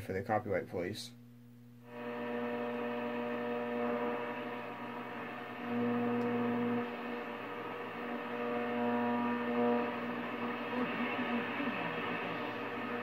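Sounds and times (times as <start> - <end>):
radio mains hum: 0.0 - 13.0
radio static hiss: 1.9 - 13.0.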